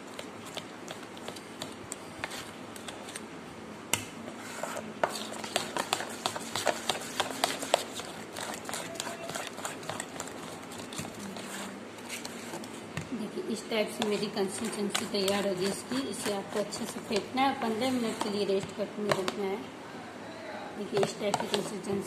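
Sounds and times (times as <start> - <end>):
utensil stirring wet batter: 0.0 - 3.3, 3.9 - 19.6, 20.8 - 22.0.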